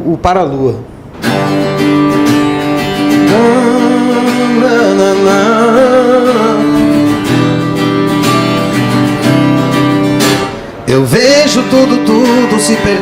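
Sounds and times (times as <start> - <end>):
acoustic guitar strumming: 0.9 - 13.0.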